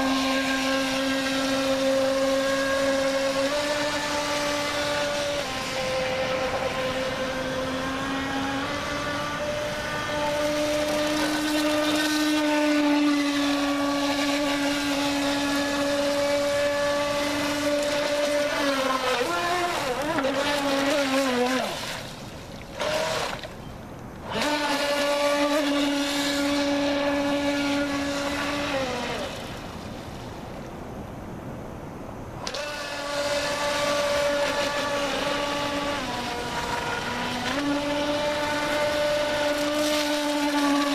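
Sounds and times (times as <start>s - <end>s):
model speedboat motor whining: 0.0s - 30.0s, 32.4s - 40.9s.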